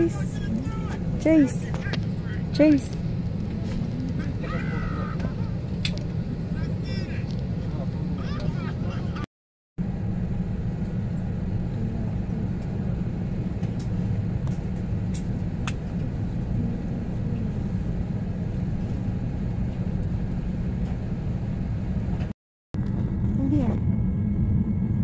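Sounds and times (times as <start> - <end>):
airliner cabin rumble: 0.0 - 25.0.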